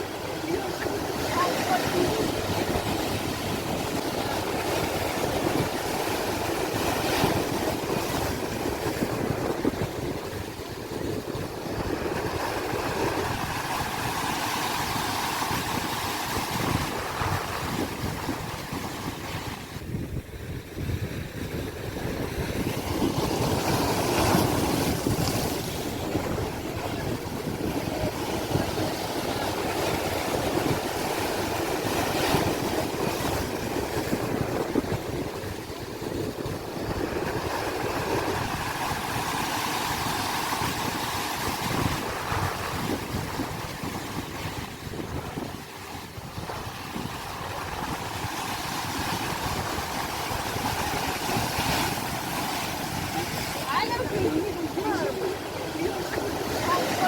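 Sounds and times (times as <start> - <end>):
sea waves breaking: 0.0 - 57.0.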